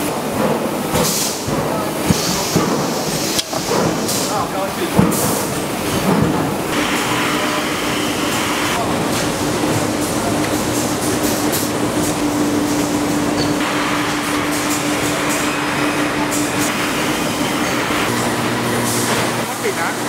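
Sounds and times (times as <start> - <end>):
factory machinery hum: 0.0 - 20.0
machinery clicks and clatter: 0.0 - 20.0.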